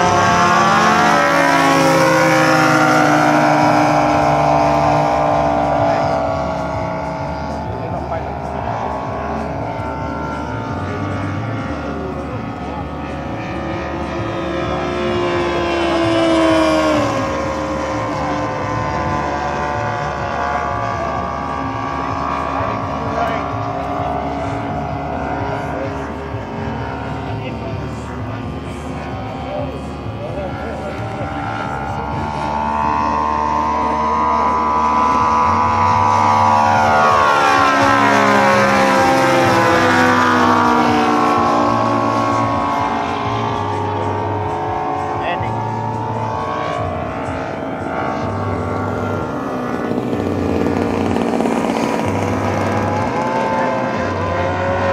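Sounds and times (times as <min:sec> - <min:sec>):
model plane engine fly-by: 0:00.0 - 0:54.9.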